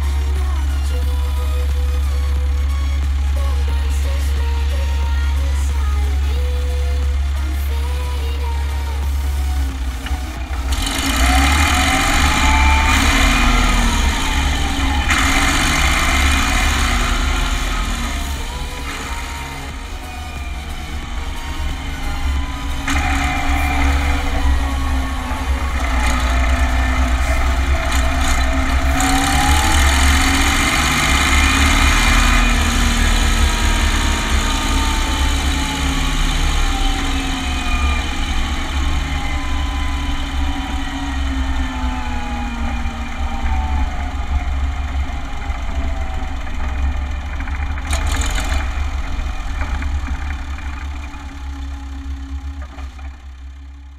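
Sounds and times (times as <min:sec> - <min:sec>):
tractor diesel engine rumble: 0:00.0 - 0:53.9.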